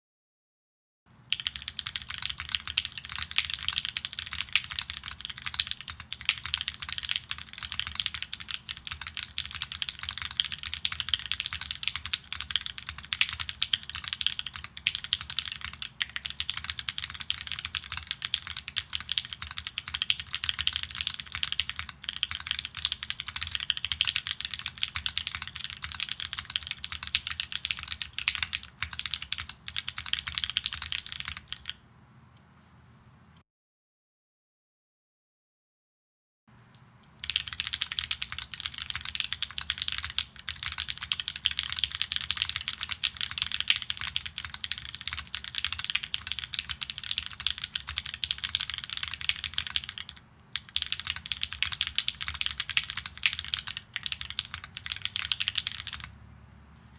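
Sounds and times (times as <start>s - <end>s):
fast typing on mechanical keyboard: 1.3s - 31.8s, 37.2s - 56.1s.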